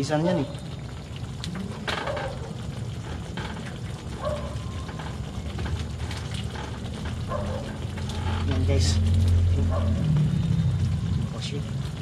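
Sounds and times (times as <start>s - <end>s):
low steady rumble: 1.1s - 12.0s.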